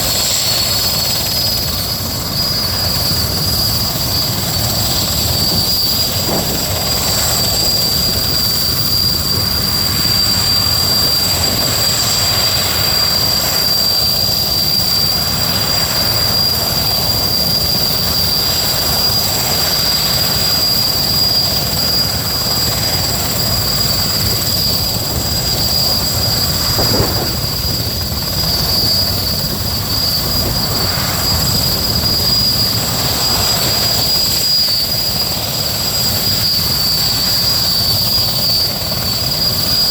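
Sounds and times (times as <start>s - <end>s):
engine and rotor rumble: 0.0s - 39.9s
high-pitched turbine whine: 0.0s - 39.9s.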